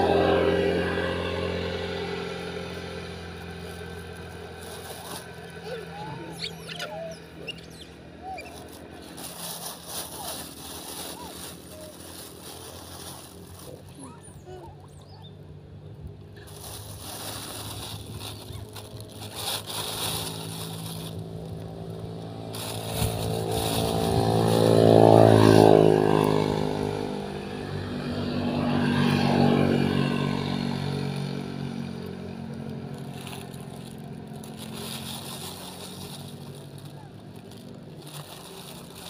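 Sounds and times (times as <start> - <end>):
vehicles passing on road: 0.0 - 39.0.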